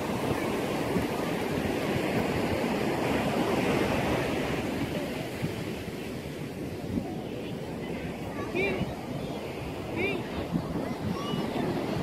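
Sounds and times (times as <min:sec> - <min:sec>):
surf on sandy beach: 0:00.0 - 0:12.0
wind rumbling on microphone: 0:00.0 - 0:12.0.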